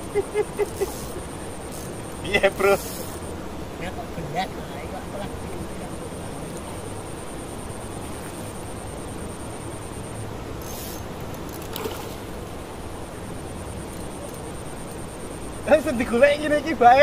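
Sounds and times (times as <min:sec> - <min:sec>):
river noise: 0:00.0 - 0:17.0
wind: 0:00.0 - 0:17.0.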